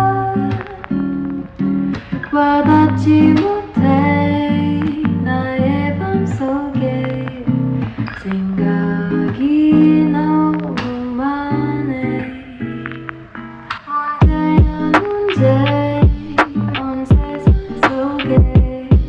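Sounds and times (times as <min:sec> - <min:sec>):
lofi hip-hop beat with guitar: 0:00.0 - 0:19.0.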